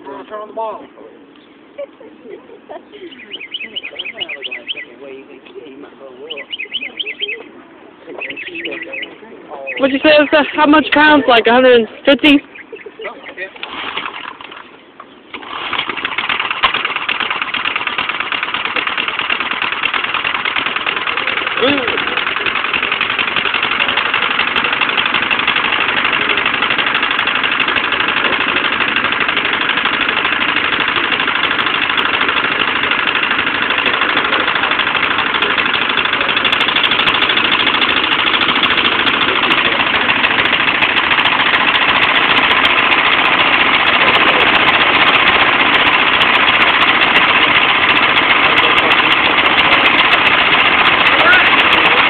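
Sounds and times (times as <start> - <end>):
engine running steadily: 0.0 - 52.0.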